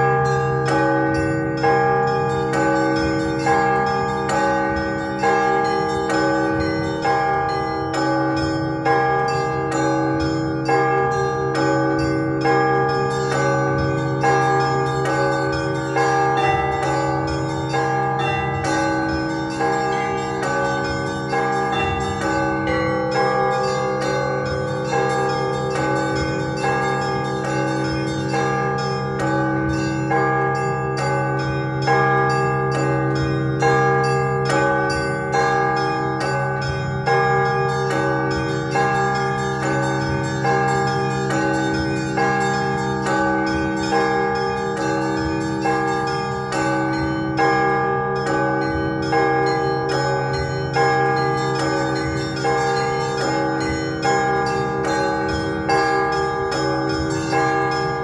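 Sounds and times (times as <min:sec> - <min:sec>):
church bells ringing a peal: 0:00.0 - 0:58.0
heavy bell strokes: 0:00.0 - 0:58.0
small bells chiming rapidly: 0:00.0 - 0:58.0.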